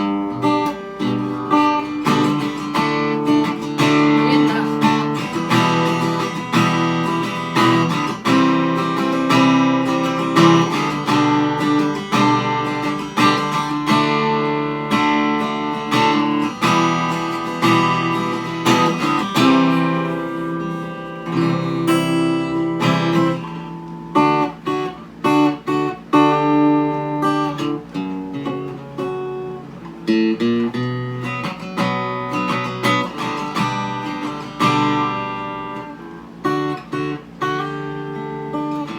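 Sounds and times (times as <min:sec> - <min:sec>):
amplified acoustic guitar strumming: 0:00.0 - 0:38.9.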